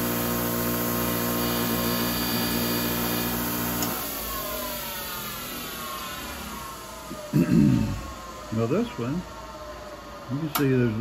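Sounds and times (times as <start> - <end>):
bench grinder motor whine: 0.0 - 11.0.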